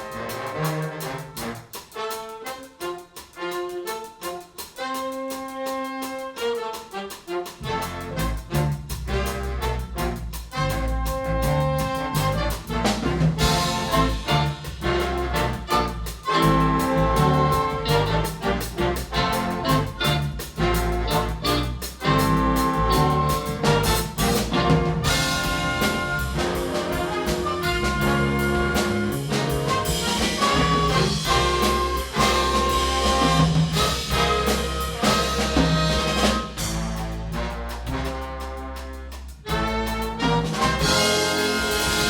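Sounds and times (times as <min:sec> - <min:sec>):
big band jazz brass: 0:00.0 - 0:42.0.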